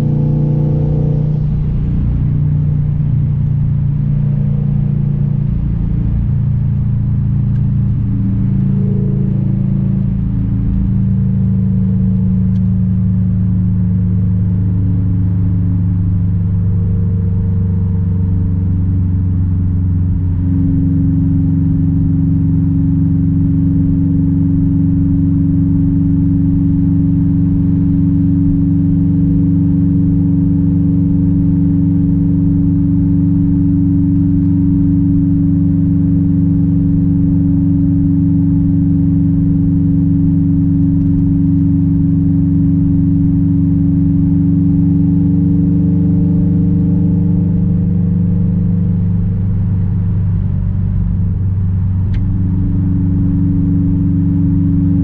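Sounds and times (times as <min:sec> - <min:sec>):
car engine droning at cruise: 0:00.0 - 0:55.0.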